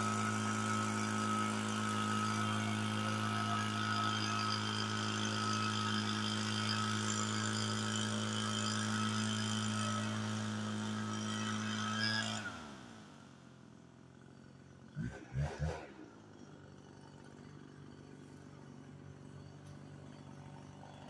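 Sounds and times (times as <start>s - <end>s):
leaf blower running: 0.0s - 21.0s.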